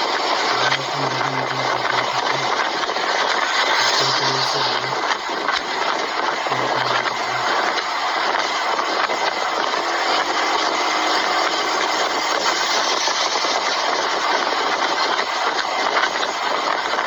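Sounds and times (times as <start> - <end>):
dense rushing noise: 0.0 - 17.0
engine running: 0.0 - 17.0.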